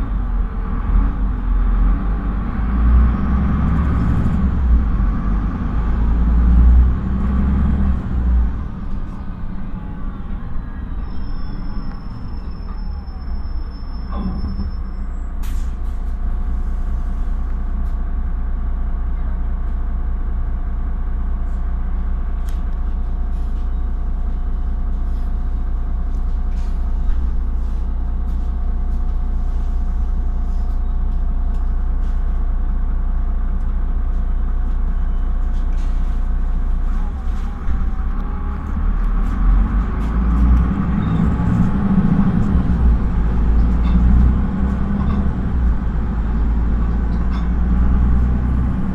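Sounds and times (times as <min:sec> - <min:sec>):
bus diesel engine humming: 0:00.0 - 0:48.9.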